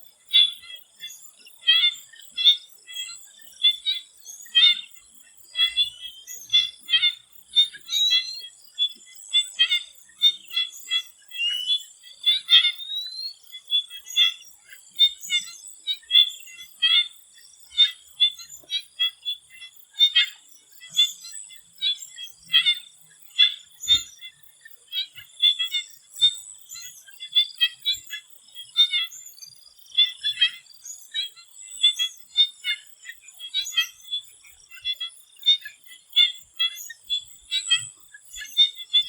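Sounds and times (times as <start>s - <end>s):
frogs calling: 0.0s - 39.0s.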